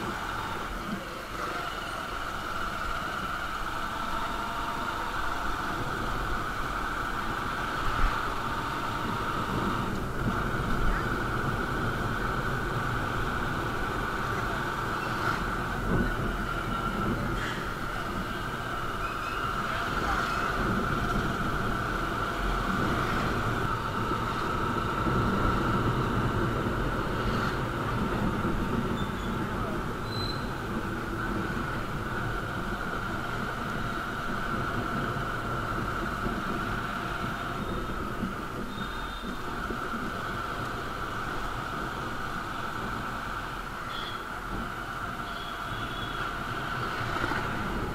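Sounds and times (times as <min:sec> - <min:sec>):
motorcycle engine and wind: 0:00.0 - 0:47.9.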